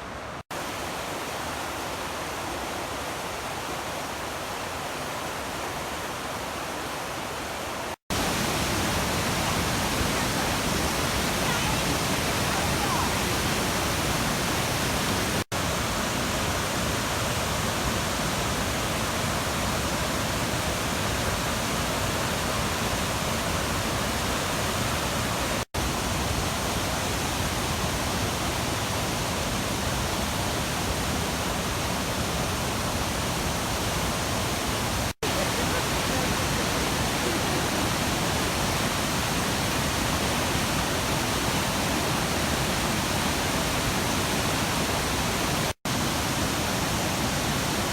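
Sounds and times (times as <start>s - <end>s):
white water rushing: 0.0s - 47.9s.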